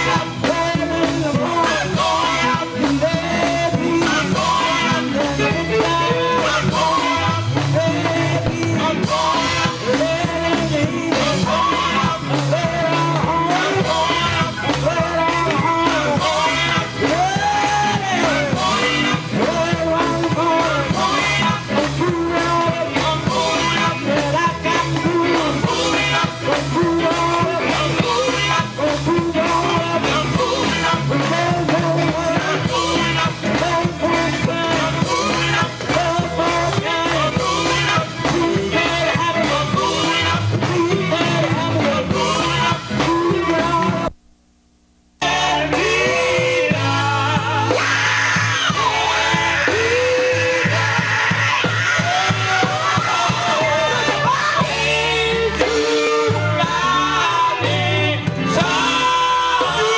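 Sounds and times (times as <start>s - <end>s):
gospel group singing: 0.0s - 44.1s, 45.2s - 59.9s
band playing with steady beat: 0.0s - 44.2s, 45.2s - 59.9s.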